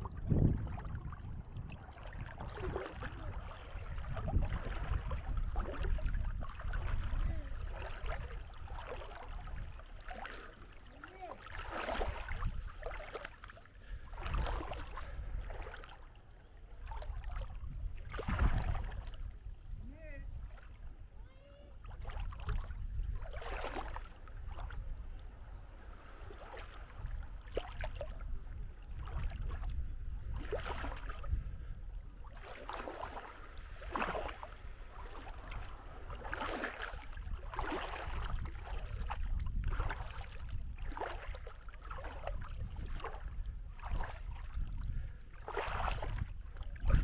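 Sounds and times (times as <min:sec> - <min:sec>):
small waves lapping on beach: 0:00.0 - 0:47.0.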